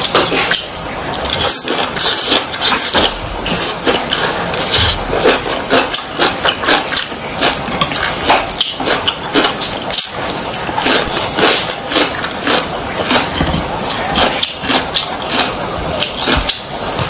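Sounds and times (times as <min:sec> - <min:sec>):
mouth chewing crunchy food: 0:00.0 - 0:17.0.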